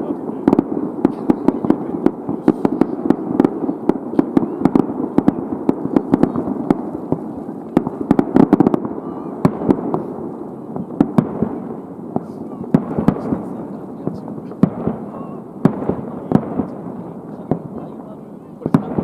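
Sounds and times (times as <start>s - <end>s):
fireworks bursts and crackles: 0.0s - 19.0s.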